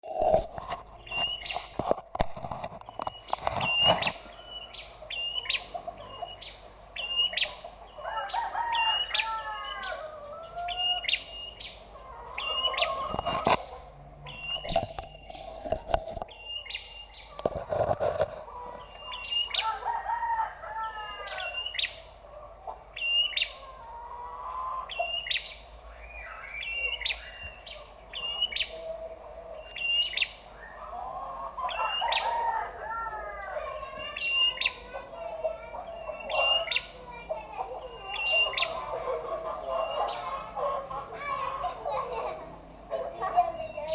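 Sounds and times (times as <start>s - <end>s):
songbird chirping: 0.0s - 43.9s.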